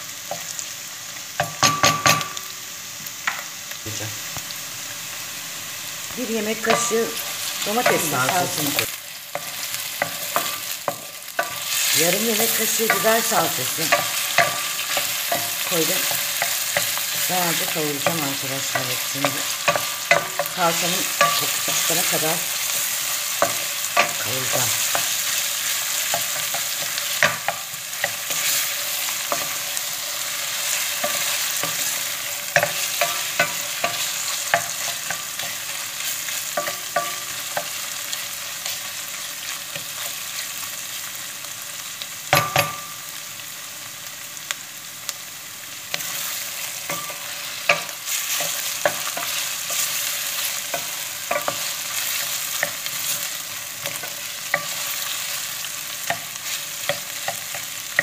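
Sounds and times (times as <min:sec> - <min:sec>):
meat and onions sizzling in a pot: 0:00.0 - 0:58.0.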